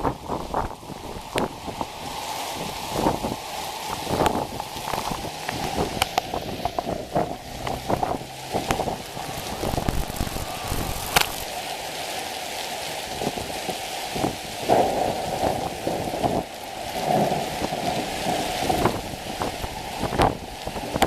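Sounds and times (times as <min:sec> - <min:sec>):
heavy rain hissing: 0:00.0 - 0:21.0
raindrop impacts: 0:00.0 - 0:21.0.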